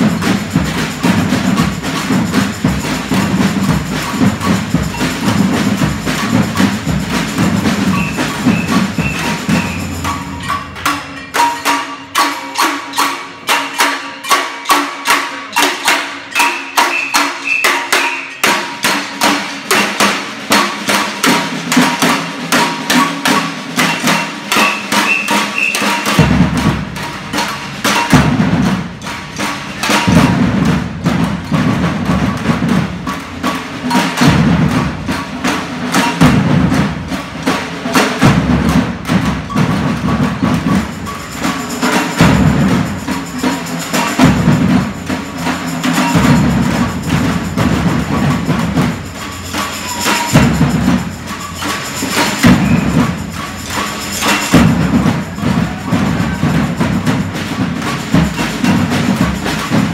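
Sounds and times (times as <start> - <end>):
stick-struck drums: 0.0 - 59.9.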